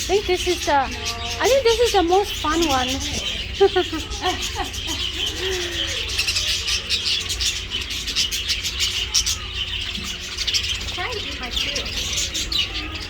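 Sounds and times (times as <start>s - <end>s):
small birds chattering and chirping: 0.0s - 13.0s.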